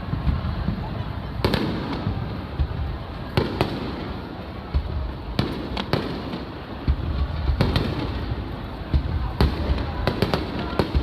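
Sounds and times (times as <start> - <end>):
firework bangs with echo: 0.0 - 11.0.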